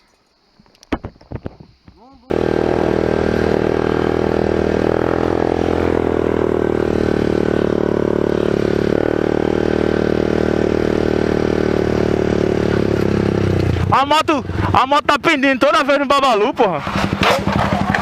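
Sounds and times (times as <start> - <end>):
motorcycle engine running: 0.7 - 18.0.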